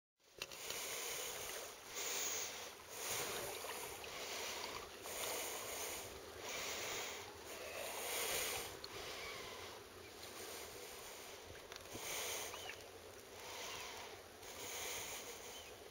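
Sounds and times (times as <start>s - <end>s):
water lapping along a hull: 0.2s - 15.9s.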